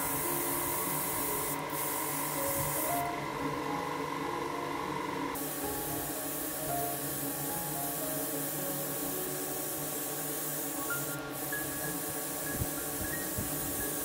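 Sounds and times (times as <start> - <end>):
airbrush spraying hiss: 0.0 - 3.1, 5.4 - 14.0.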